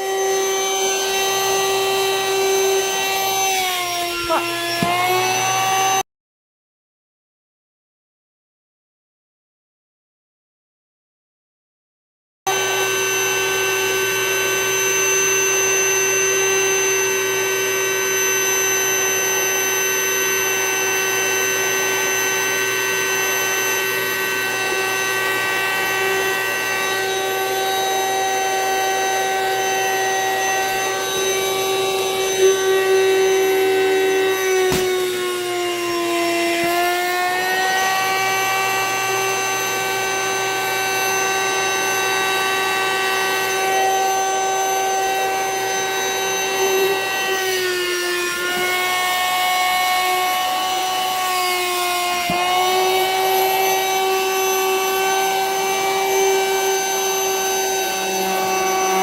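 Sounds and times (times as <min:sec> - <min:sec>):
vacuum pump whining: 0:00.0 - 0:06.0, 0:12.5 - 0:59.0.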